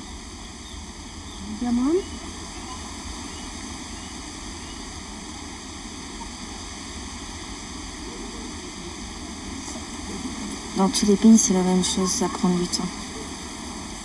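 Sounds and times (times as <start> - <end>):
even hiss: 0.0 - 14.0.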